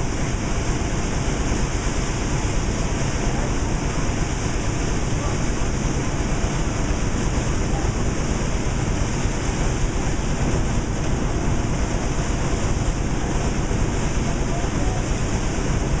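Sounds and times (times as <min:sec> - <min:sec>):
cotton gin machinery roaring: 0:00.0 - 0:16.0.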